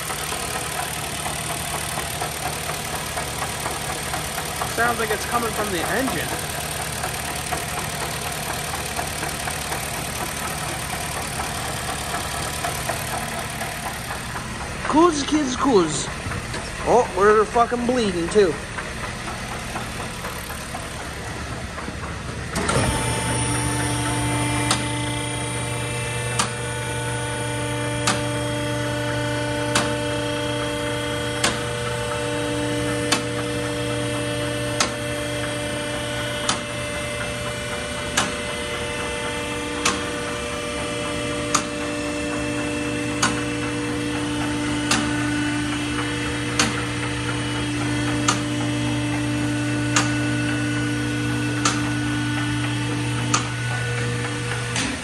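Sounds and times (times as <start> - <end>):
car engine humming: 0.0 - 49.5
engine whine: 0.0 - 55.0.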